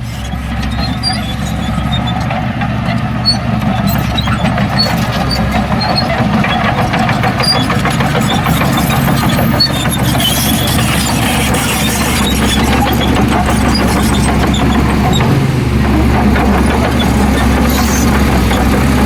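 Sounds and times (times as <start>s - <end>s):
short high squeaks: 0.0s - 15.4s, 16.6s - 18.7s
heavy diesel machinery running: 0.0s - 19.0s.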